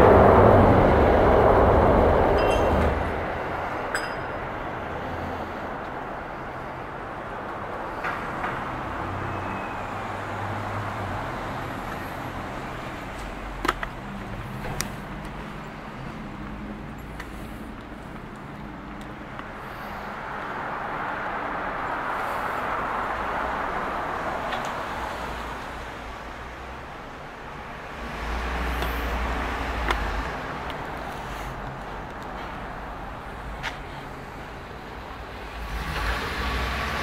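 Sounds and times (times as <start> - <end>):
street traffic: 0.0 - 37.0.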